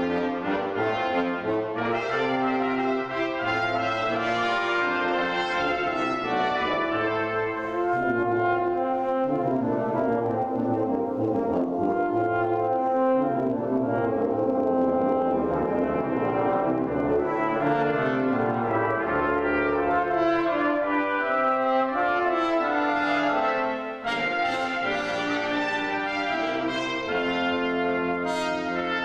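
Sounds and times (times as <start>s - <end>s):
brass quintet playing a hymn: 0.0s - 29.0s
tuba bass line: 0.0s - 29.0s.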